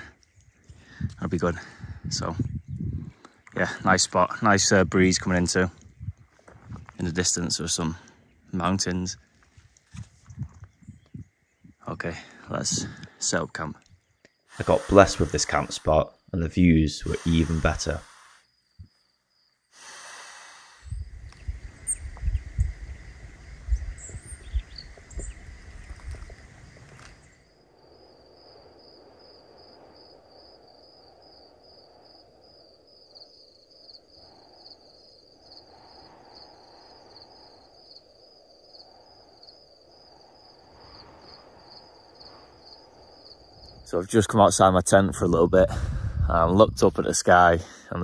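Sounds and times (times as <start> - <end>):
wind buffeting microphone: 0.0 - 11.8, 12.5 - 13.2, 20.8 - 33.4, 34.1 - 47.5
high-pitched insect trill: 4.0 - 45.6.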